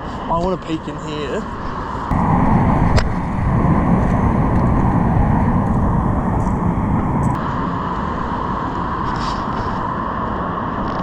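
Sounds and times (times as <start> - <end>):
loud rushing rumble: 0.0 - 11.0.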